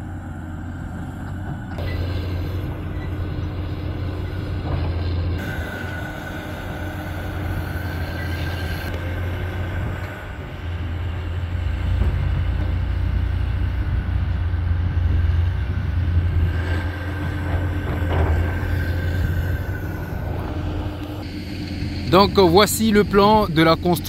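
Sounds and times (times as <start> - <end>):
distant excavators and trucks rumbling: 0.0 - 24.0.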